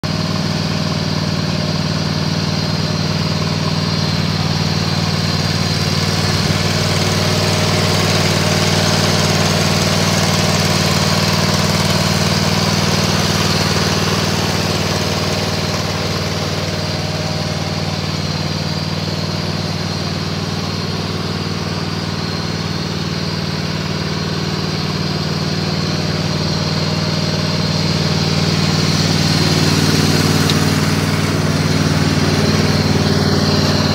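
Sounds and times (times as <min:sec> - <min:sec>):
mower engine idling: 0:00.0 - 0:33.9.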